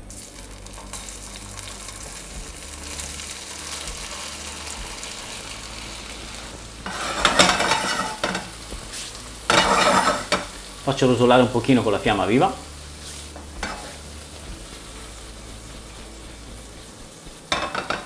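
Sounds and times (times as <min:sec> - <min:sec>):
gnocchi sizzling in a pan: 0:00.0 - 0:18.0.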